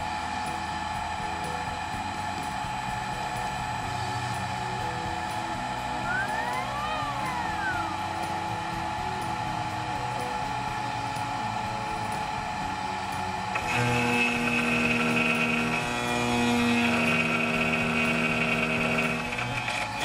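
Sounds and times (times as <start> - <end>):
milling machine whine: 0.0 - 20.0.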